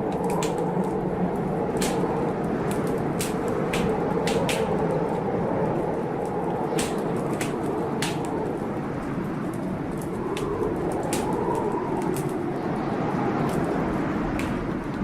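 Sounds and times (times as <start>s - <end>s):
blizzard wind whistling: 0.0s - 15.0s
wood fire crackling: 0.0s - 15.0s.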